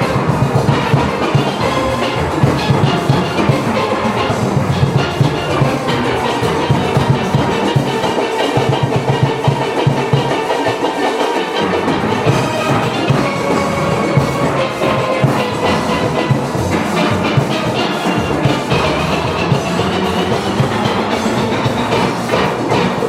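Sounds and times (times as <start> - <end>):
steel pans playing: 0.0 - 23.0.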